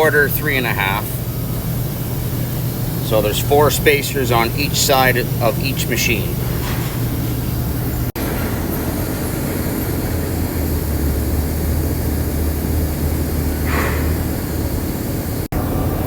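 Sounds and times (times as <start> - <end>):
gang saw machinery humming: 0.0 - 16.0.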